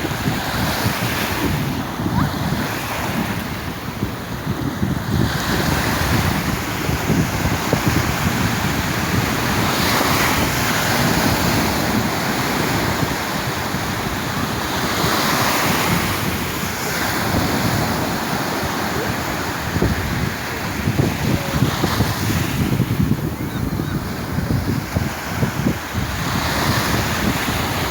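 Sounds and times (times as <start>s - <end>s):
sea waves washing onto shore: 0.0s - 27.9s
wind buffeting microphone: 0.0s - 27.9s.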